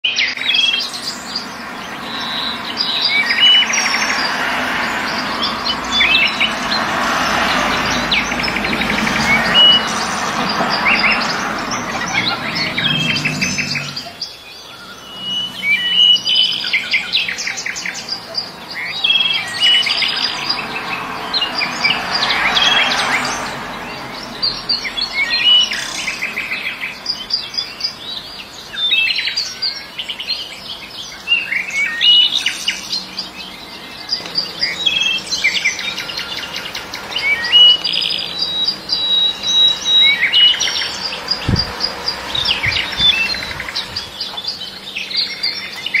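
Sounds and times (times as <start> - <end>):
songbirds chirping: 0.0 - 46.0.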